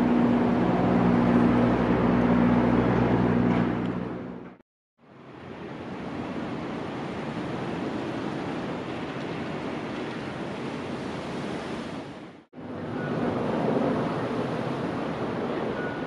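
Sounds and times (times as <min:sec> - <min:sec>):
choppy sea: 0:00.0 - 0:04.2, 0:05.0 - 0:16.0
strong wind: 0:00.0 - 0:16.0.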